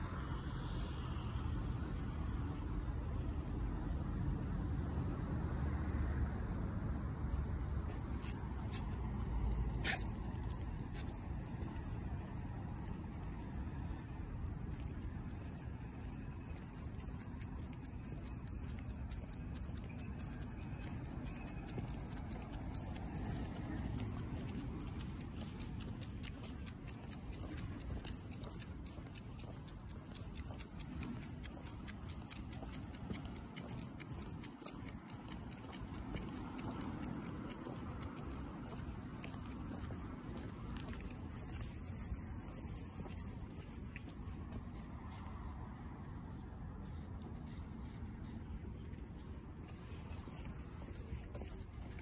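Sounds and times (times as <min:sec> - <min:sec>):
dog footsteps on pavement: 0:00.0 - 0:03.6, 0:07.2 - 0:52.0.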